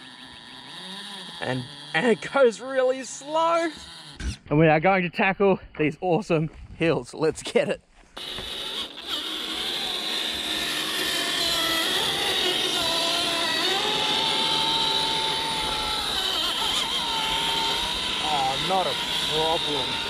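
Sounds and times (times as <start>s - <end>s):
rc car electric motor whining: 0.0s - 4.4s, 8.2s - 20.0s.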